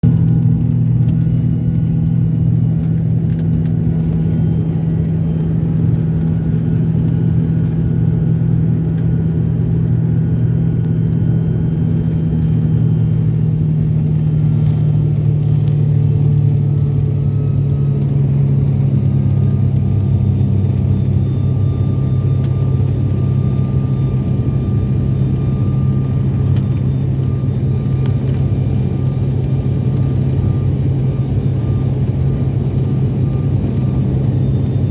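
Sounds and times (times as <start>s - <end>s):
airliner engine drone: 0.0s - 34.9s.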